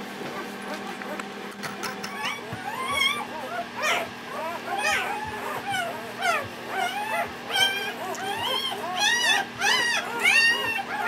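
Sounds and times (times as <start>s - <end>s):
puppies whimpering and squealing: 0.0s - 11.0s.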